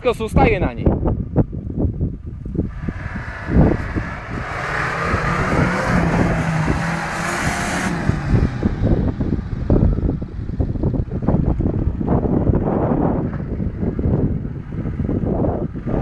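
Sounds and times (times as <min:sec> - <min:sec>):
off-road engine pulling hard: 0:02.2 - 0:16.0.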